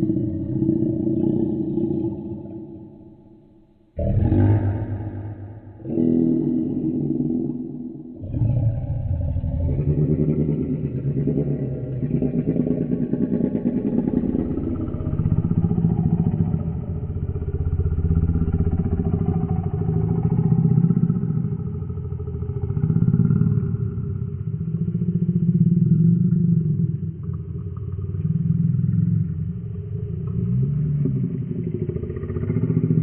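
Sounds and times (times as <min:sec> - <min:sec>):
deep rumbling dinosaur growl: 0:00.0 - 0:03.3, 0:04.0 - 0:33.0.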